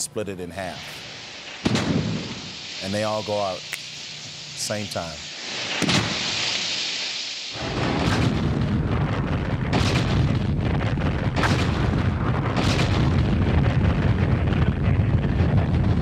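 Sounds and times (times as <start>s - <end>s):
crackling flares: 0.5s - 16.0s
rocket boosters roaring: 0.6s - 16.0s.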